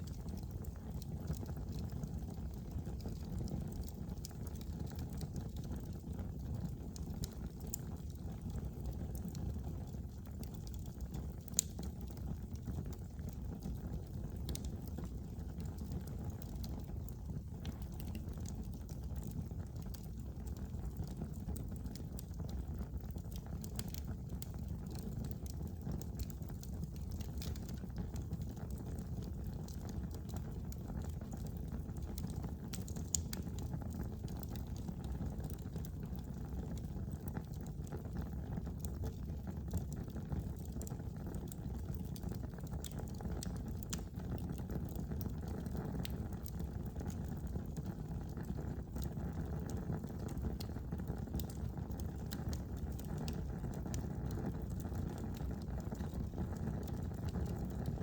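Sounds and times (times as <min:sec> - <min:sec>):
fire crackles and pops: 0:00.0 - 0:58.0.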